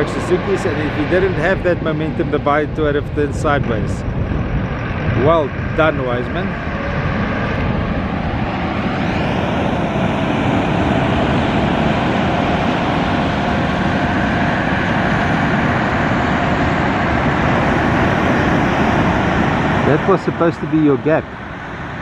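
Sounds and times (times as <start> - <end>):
outboard motors running: 0.0 - 22.0.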